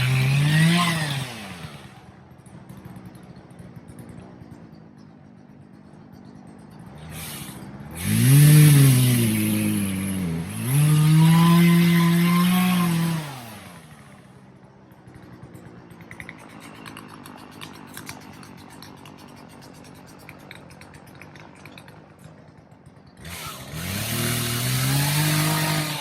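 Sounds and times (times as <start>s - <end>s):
chainsaw revving: 0.0s - 3.1s, 7.0s - 26.0s.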